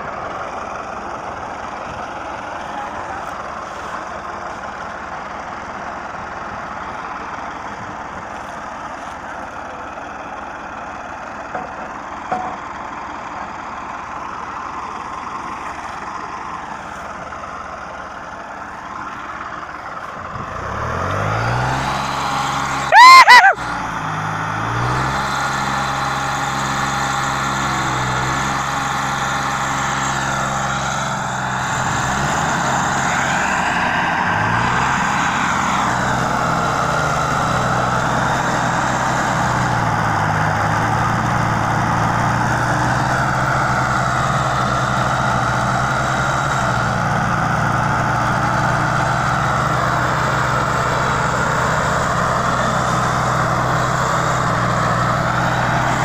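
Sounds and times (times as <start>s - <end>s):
diesel tractors running under heavy load: 0.0s - 56.0s.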